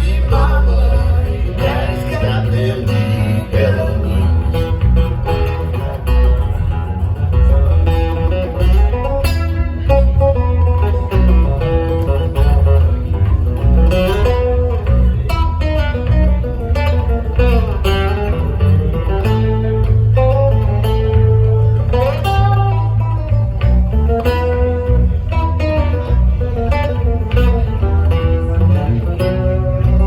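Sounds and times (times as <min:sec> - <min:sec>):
guitar picking melody: 0:00.0 - 0:30.0
live blues band: 0:00.0 - 0:30.0
loud steady bass line: 0:00.0 - 0:30.0.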